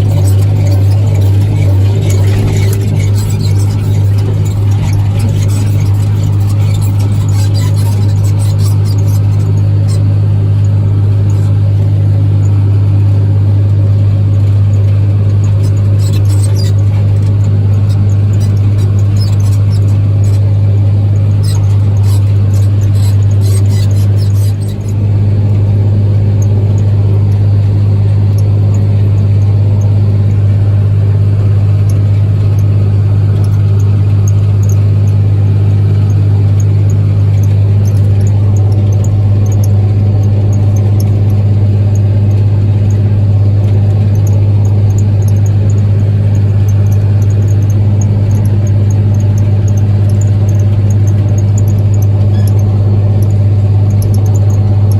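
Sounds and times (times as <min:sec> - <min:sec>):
high squeaks and clicks: 0:00.0 - 0:12.8, 0:14.5 - 0:25.3, 0:31.7 - 0:54.9
tractor diesel engine running: 0:00.0 - 0:54.9.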